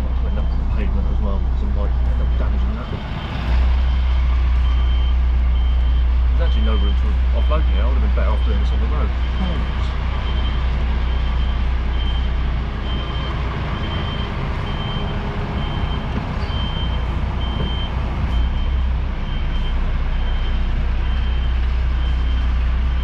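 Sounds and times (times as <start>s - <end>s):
diesel engine running: 0.0s - 23.0s
reversing alarm beeping: 2.0s - 23.0s.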